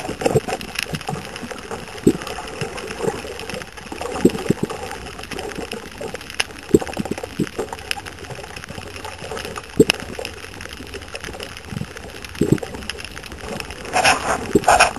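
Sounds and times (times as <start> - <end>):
water gurgling and sloshing: 0.0 - 14.9.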